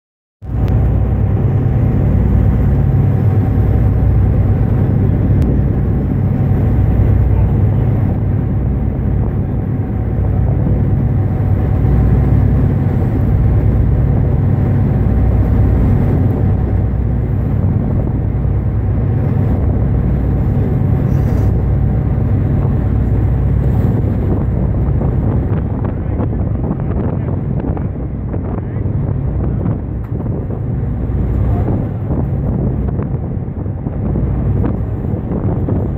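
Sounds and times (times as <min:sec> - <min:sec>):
boat engine rumbling: 0:00.4 - 0:35.9
wind rushing: 0:00.4 - 0:35.9
water rushing: 0:00.5 - 0:35.6.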